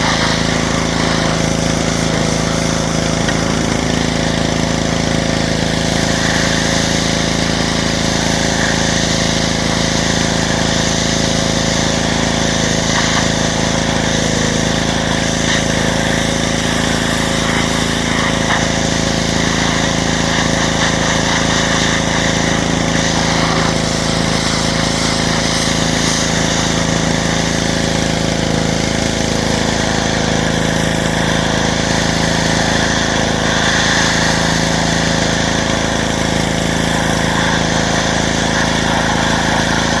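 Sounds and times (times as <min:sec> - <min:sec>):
pressure washer spraying: 0:00.0 - 0:40.0.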